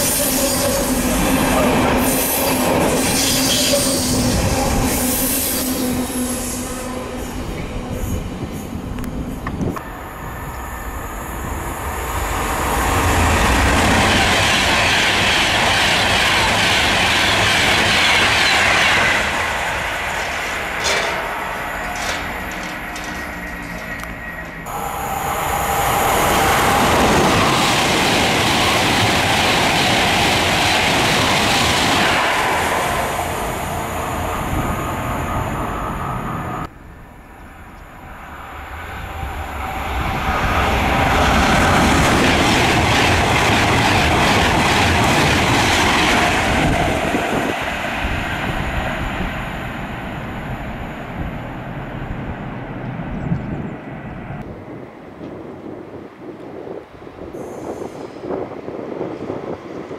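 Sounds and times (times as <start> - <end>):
trains passing at speed: 0.0 - 59.9.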